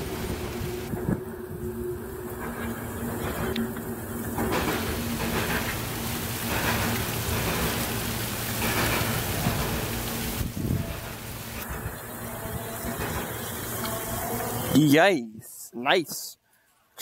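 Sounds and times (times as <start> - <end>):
low hum: 0.0 - 14.7
steady rain: 0.0 - 15.0
train cars rolling on wet rails: 0.0 - 15.1.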